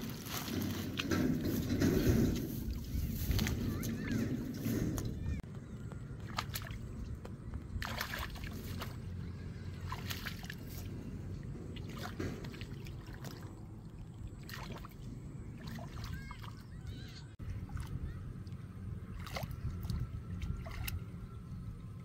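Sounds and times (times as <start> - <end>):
water sloshing from wading: 0.0 - 22.0.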